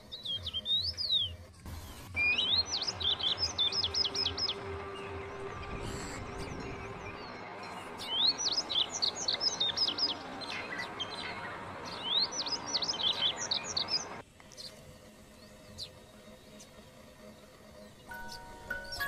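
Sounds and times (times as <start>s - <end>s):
songbird chirping: 0.0s - 19.0s.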